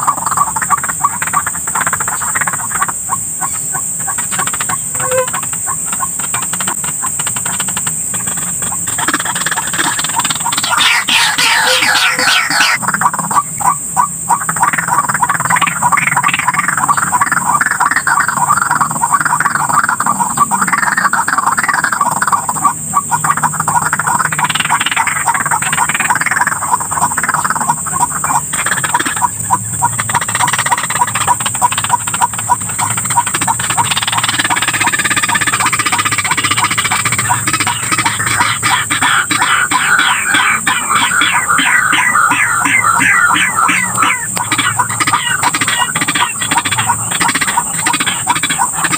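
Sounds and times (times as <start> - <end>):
waterhens calling harshly: 0.0 - 7.6, 8.2 - 48.9
steady high hiss: 0.0 - 48.9.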